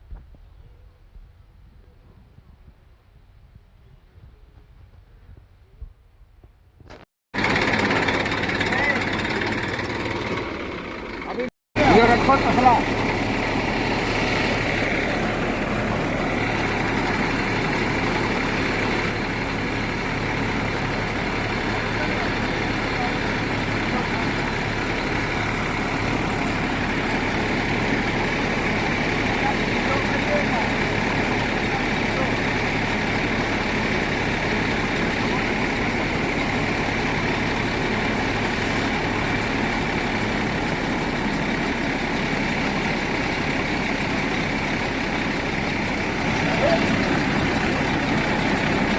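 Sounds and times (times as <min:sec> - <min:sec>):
machine motor humming: 0:07.4 - 0:38.4, 0:39.4 - 0:48.9.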